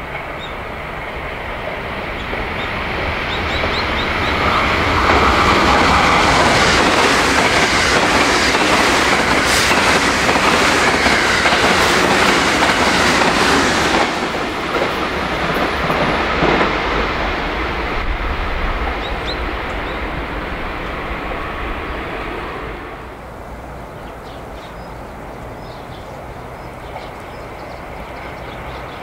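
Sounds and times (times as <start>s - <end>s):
low train rumble: 0.0s - 29.0s
train rushing past: 0.0s - 29.0s.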